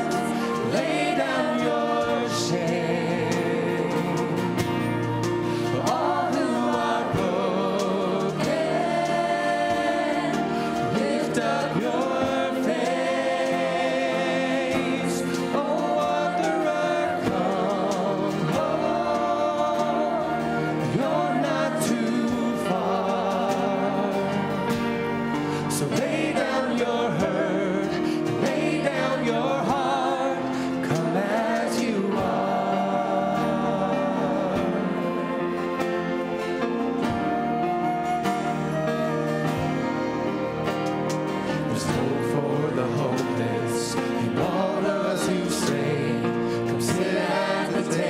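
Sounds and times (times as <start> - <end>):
choir singing gospel song: 0.0 - 48.0
instrumental accompaniment: 0.0 - 48.0.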